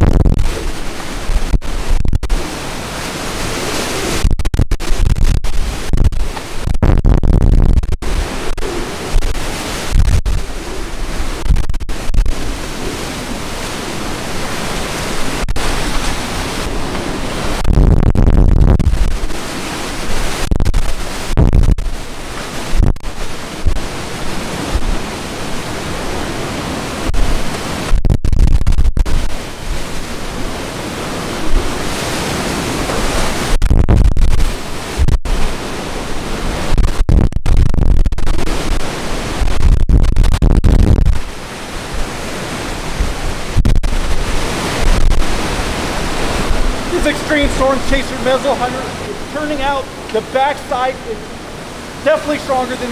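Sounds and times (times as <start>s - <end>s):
driving rain: 0.0s - 52.9s
strong wind rushing: 0.0s - 52.9s
wind gusts hitting microphone: 0.0s - 52.9s.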